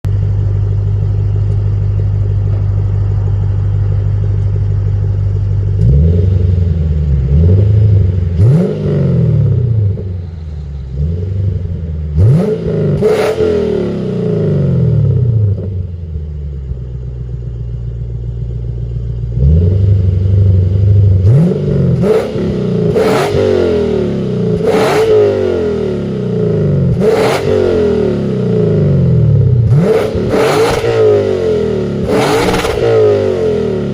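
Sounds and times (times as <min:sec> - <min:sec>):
car engine idling: 0:00.0 - 0:33.9
car engine revving: 0:00.1 - 0:33.9.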